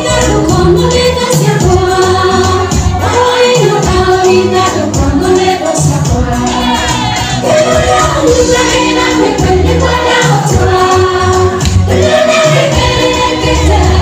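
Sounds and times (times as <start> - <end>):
amplified backing music: 0.0 - 14.0
voices singing along: 0.0 - 14.0
woman singing into a microphone: 0.0 - 14.0.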